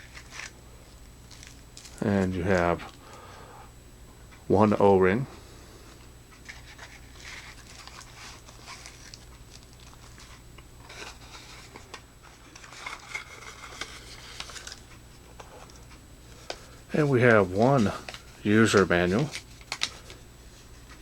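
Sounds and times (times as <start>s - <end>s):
packaging rustling and crinkling: 0.0s - 3.1s, 6.3s - 21.0s
steady low hum: 0.0s - 21.0s.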